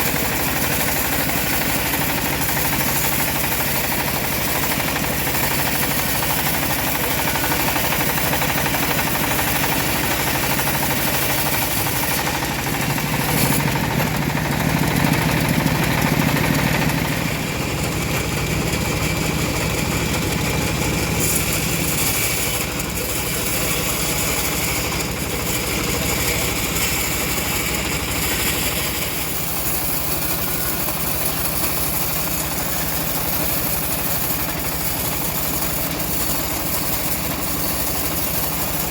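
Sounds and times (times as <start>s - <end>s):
bandsaw mill motor humming: 0.0s - 38.9s.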